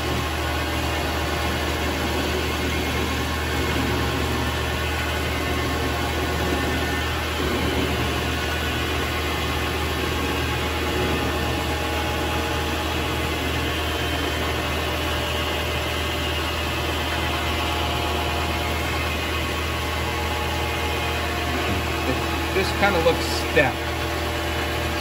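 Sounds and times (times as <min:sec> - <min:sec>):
cutter turning spinning workpiece: 0:00.0 - 0:25.0
lathe motor humming and whining: 0:00.0 - 0:25.0.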